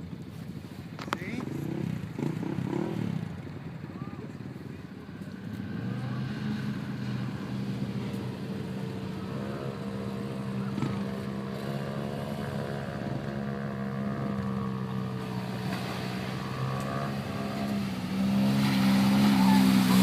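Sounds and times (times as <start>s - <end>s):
vehicle engine running: 0.0s - 20.0s
higher engine revving: 1.3s - 4.1s, 5.3s - 20.0s.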